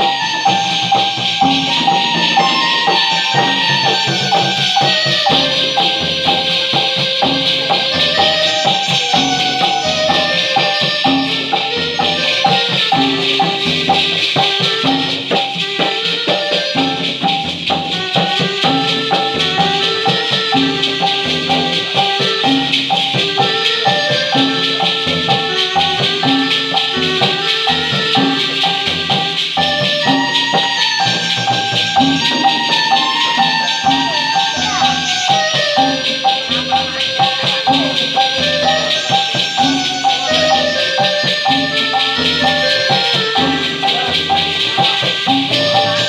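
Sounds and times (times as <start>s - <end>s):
bass beat: 0.0s - 46.0s
electronic keyboard melody: 0.0s - 46.0s
shaker rattling: 0.0s - 46.0s.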